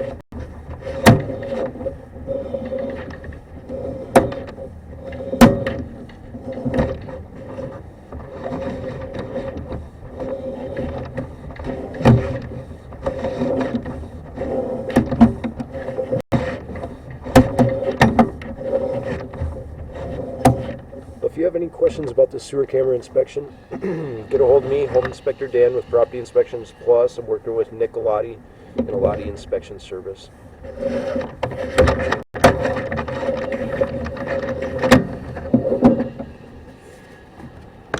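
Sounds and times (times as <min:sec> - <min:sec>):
cable knocking and scraping in pipe: 0:00.0 - 0:27.0, 0:30.6 - 0:37.9
steady hum: 0:00.0 - 0:37.9.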